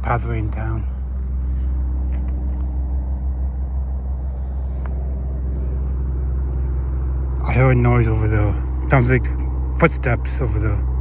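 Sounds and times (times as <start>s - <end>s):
low mechanical hum and rumble: 0.0s - 11.0s.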